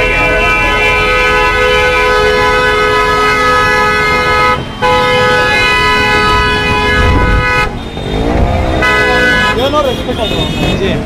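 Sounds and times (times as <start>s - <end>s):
vehicle horn blasts: 0.0s - 10.9s
motorbike engines: 0.0s - 11.0s
slow street traffic rumble: 0.0s - 11.0s.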